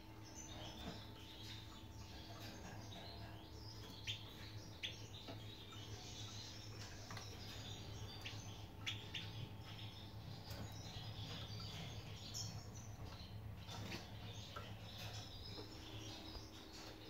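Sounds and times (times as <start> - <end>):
goldfinches twittering: 0.0 - 17.0
steady low hum: 0.0 - 17.0.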